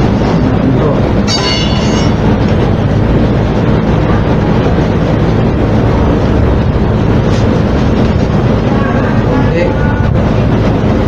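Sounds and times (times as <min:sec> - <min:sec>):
rumble with machine hum: 0:00.0 - 0:11.0.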